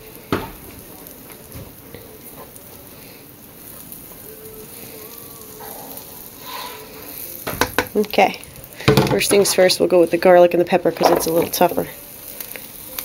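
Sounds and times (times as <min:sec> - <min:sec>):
butter sizzling on a griddle: 0:00.0 - 0:13.0.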